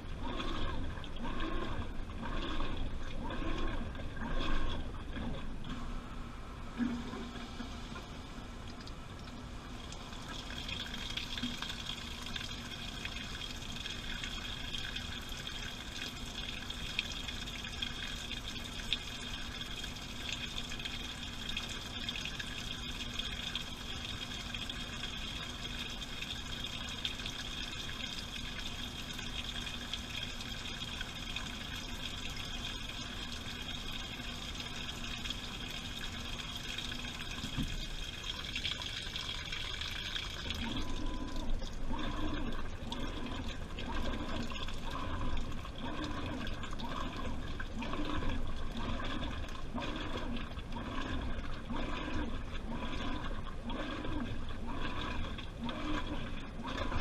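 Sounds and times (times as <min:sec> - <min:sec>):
washing machine low hum: 0:00.0 - 0:57.0
water rushing into washing machine: 0:00.0 - 0:57.0.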